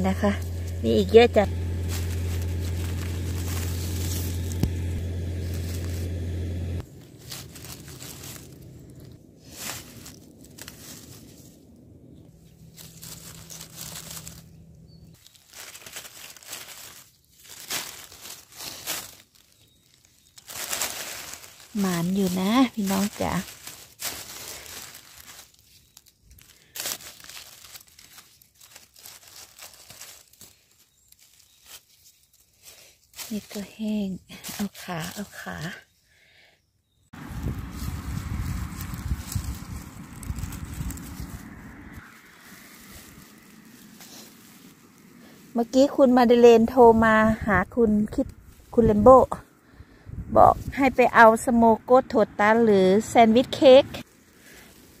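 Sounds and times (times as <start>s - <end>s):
rustling of dry leaves and grass: 0.0s - 55.0s.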